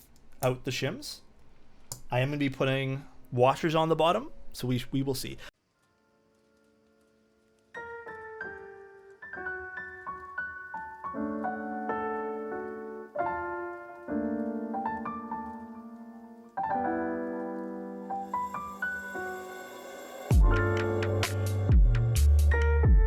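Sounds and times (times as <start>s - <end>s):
background piano music: 3.4s - 23.0s.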